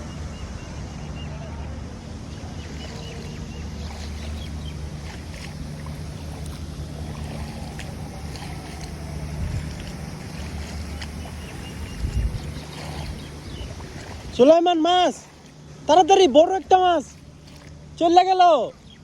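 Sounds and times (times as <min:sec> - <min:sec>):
low motor drone: 0:00.0 - 0:18.0
outdoor noise: 0:00.0 - 0:19.0.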